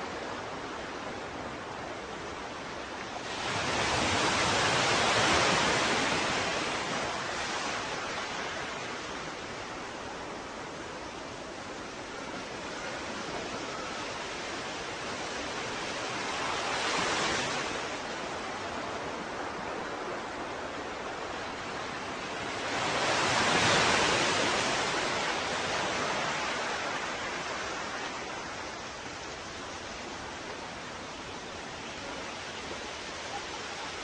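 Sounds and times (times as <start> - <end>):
surf hiss: 0.0 - 34.0
waves breaking: 0.0 - 34.0.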